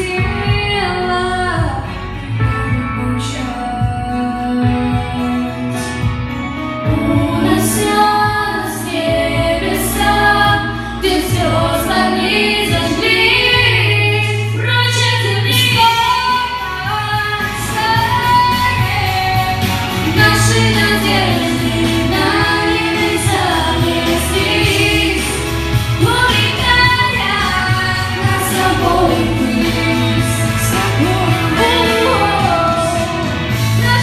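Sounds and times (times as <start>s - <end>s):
women singing: 0.0s - 6.1s, 6.8s - 34.0s
instrumental backing track: 0.0s - 34.0s.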